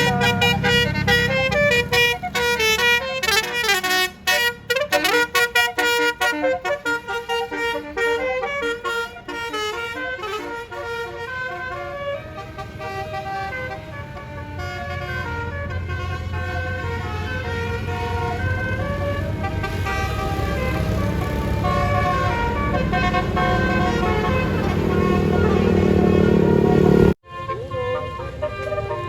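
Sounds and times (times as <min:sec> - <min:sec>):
deep vehicle rumble: 0:00.0 - 0:27.2
bus horn playing melody: 0:00.0 - 0:29.0.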